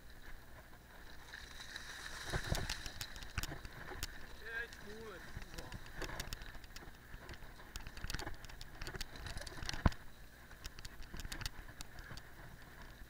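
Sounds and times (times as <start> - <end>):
low rumble of bike ride: 0.0 - 13.0
bike rattling clicks: 1.4 - 13.0.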